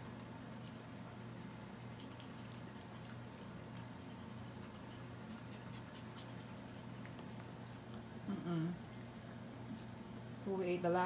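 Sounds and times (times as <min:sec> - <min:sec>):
steady low hum: 0:00.0 - 0:11.0
dogs licking wet smacks: 0:00.1 - 0:10.0.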